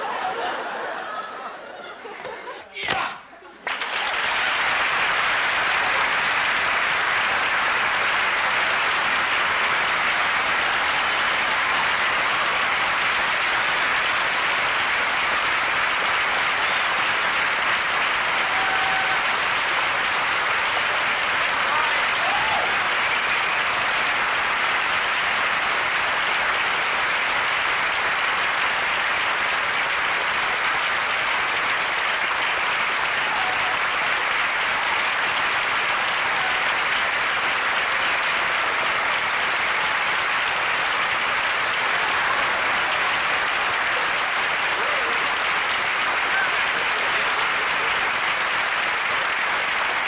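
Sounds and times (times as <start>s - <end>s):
audience applauding: 0.0s - 50.0s.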